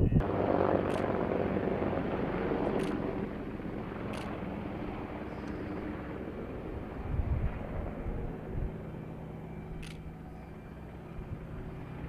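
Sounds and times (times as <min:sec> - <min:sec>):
helicopter flying: 0:00.0 - 0:12.0.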